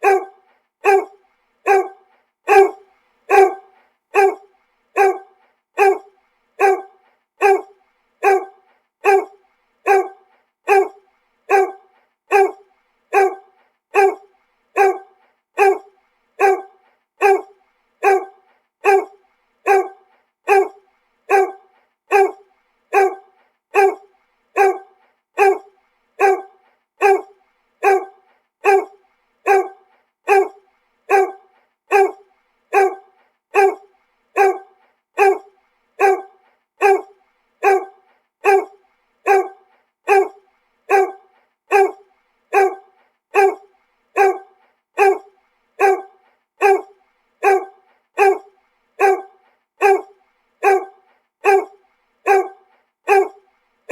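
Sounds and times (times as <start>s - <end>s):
dog barking: 0.0s - 53.9s.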